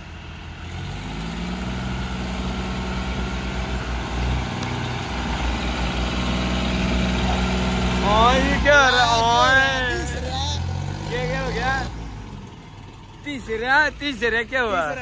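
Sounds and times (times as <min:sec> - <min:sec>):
tractor engines running: 0:00.0 - 0:15.0.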